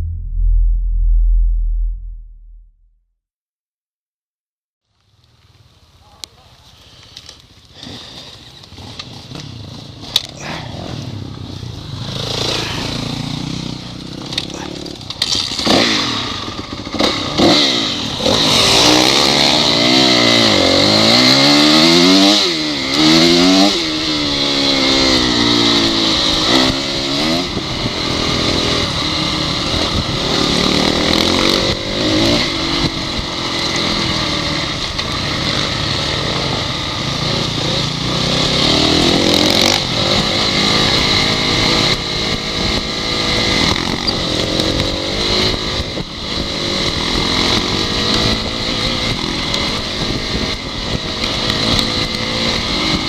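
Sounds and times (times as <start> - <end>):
dirt bike engine revving: 10.4 - 53.0.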